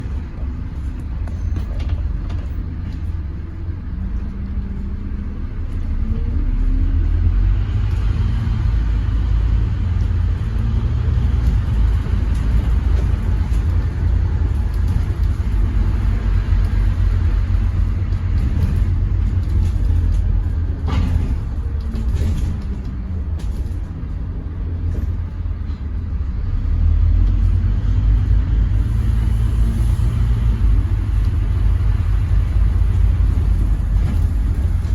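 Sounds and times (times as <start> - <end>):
bus engine rumbling: 0.0 - 34.9.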